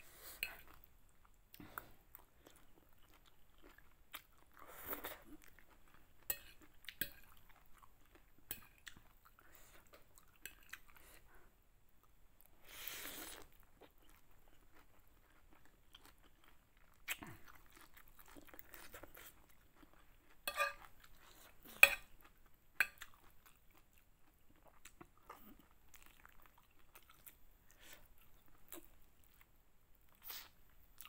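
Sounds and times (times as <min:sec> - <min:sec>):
chewing: 0:00.4 - 0:11.3, 0:13.0 - 0:29.5.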